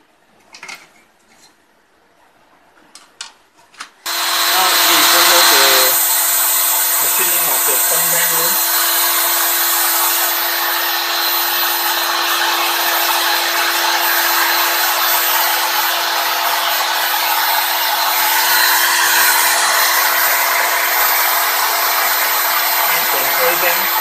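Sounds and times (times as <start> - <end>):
coolant mist hiss: 4.1 - 24.0
milling machine spindle whine: 4.1 - 24.0.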